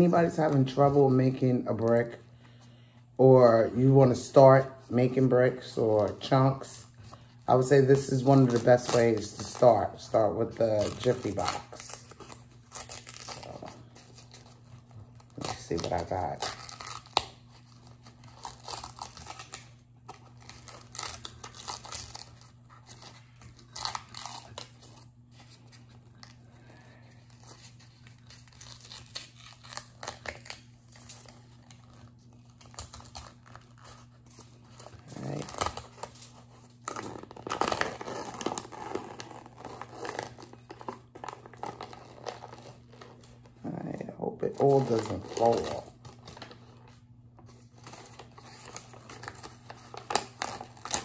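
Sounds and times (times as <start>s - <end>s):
paper wrapping tearing: 3.3s - 51.0s.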